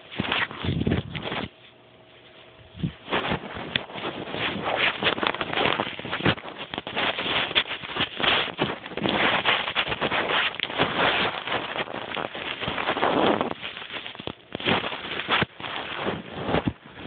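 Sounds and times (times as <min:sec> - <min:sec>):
continuous rough noise: 0:00.0 - 0:17.0.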